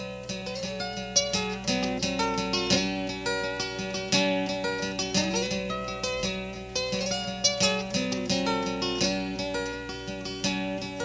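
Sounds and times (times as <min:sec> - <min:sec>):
guitar plucked notes: 0:00.0 - 0:11.0.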